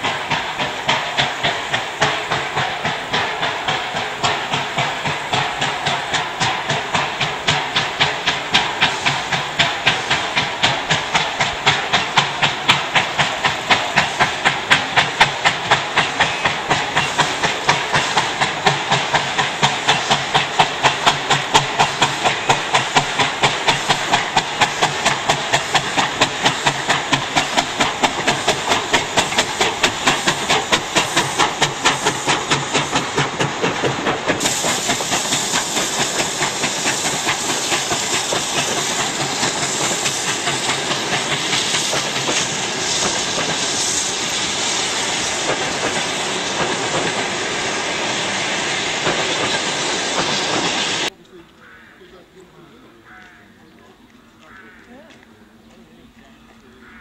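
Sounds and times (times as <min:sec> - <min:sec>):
steam locomotive chuffing: 0:00.0 - 0:57.0
train coaches rolling by: 0:00.0 - 0:57.0.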